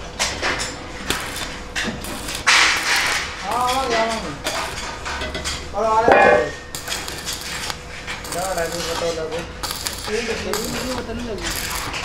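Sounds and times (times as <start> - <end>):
arc welding crackling: 0.0 - 12.0.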